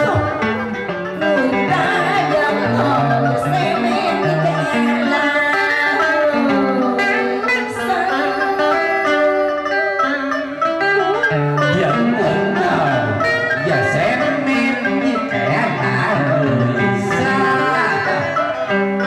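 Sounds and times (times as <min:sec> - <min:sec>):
person singing: 0:00.0 - 0:10.2, 0:11.6 - 0:19.0
plucked string instruments: 0:00.0 - 0:19.0.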